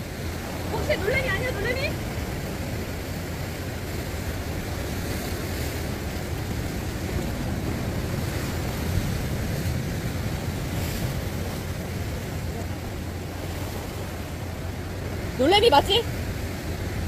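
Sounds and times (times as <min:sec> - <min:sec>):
surf washing over rocks: 0:00.0 - 0:17.0
wind buffeting microphone: 0:00.0 - 0:17.0.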